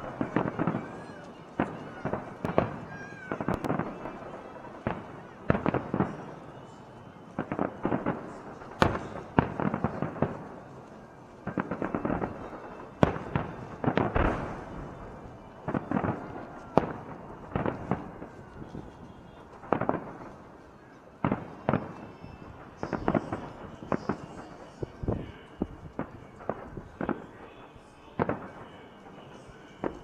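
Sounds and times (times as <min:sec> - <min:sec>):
crackling firework reports: 0:00.0 - 0:30.0
firework bursts with echo: 0:00.0 - 0:30.0.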